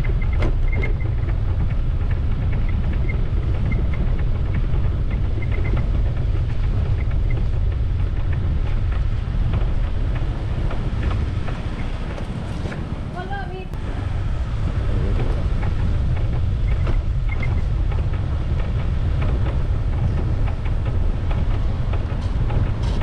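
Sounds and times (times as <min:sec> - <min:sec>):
bike road rumble on concrete: 0:00.0 - 0:23.0
wind buffeting microphone: 0:00.0 - 0:23.0.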